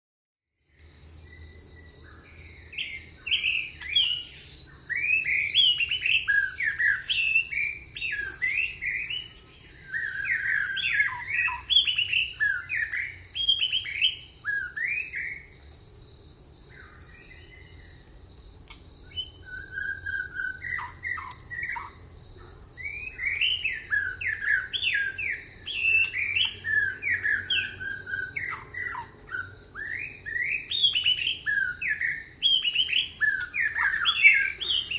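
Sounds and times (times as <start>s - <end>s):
songbirds chirping and warbling: 0.6s - 34.9s.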